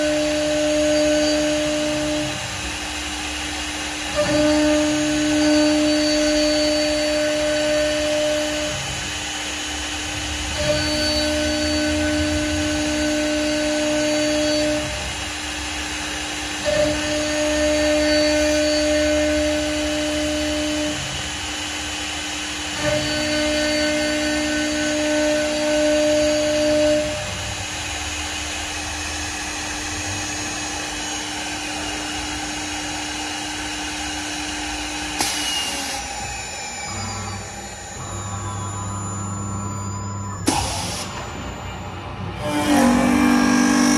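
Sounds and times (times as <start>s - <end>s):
wood lathe machine whine: 0.0s - 43.9s.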